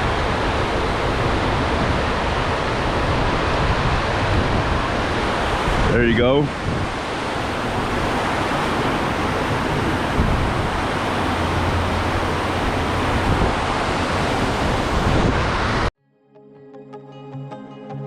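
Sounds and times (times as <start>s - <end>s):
flowing water rushing: 0.0s - 15.9s.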